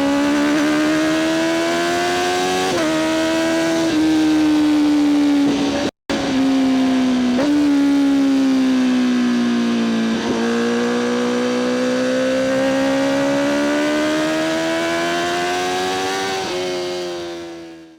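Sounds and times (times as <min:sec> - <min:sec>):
motorcycle engine revving under load: 0:00.0 - 0:17.7.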